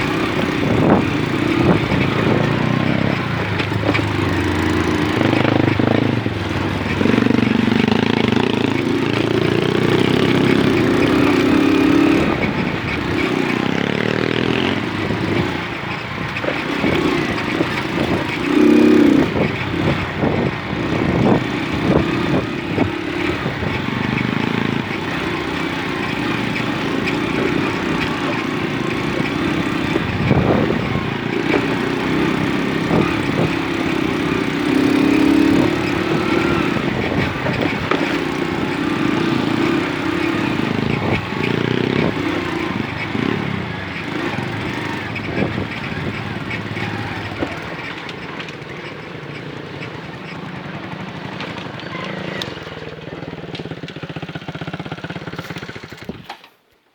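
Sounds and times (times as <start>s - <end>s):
moped engine running: 0.0s - 56.5s.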